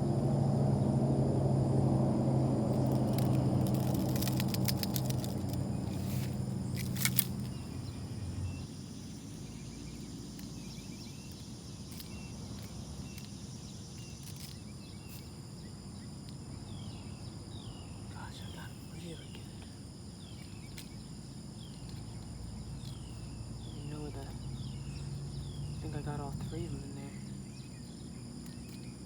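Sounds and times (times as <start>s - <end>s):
insects buzzing: 0.0s - 29.0s
low droning hum: 0.0s - 29.0s.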